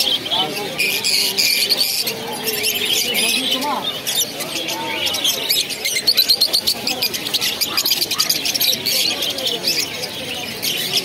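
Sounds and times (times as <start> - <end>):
lovebirds chirping: 0.0 - 11.0
people's voices: 0.0 - 11.0.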